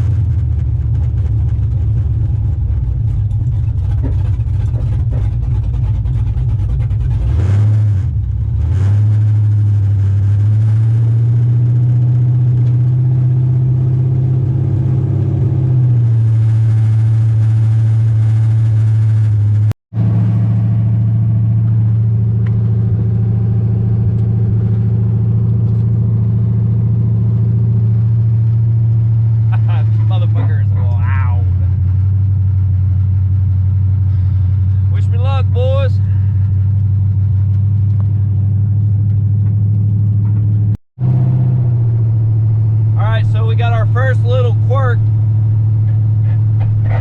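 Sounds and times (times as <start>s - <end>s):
loud engine through open headers: 0.0s - 47.0s.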